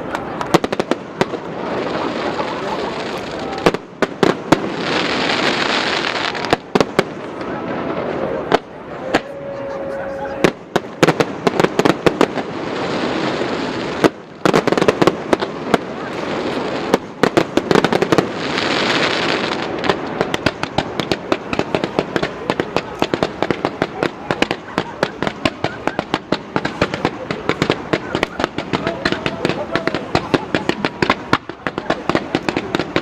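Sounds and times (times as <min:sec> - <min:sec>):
fireworks crackling pops: 0:00.0 - 0:09.4, 0:10.4 - 0:33.0
loud hissing of fireworks: 0:00.0 - 0:33.0.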